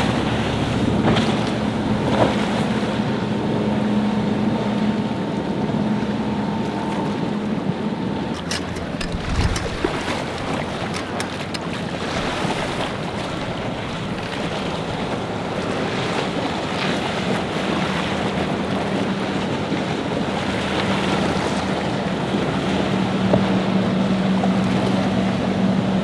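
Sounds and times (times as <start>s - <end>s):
boat engine drone: 0.0s - 26.0s
wind buffeting microphone: 4.4s - 26.0s.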